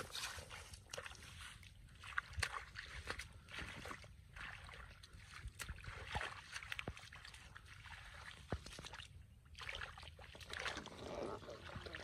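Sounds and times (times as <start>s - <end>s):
muddy water sloshing: 0.0s - 12.0s
small sharp splashes: 0.0s - 12.0s.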